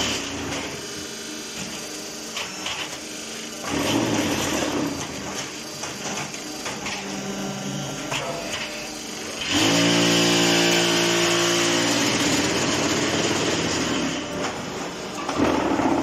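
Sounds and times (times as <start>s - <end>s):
block-making machine humming: 0.0s - 16.0s.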